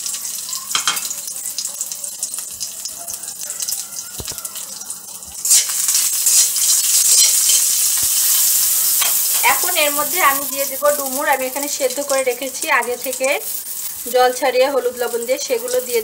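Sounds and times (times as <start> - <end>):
spices sizzling in hot oil: 0.0 - 16.0.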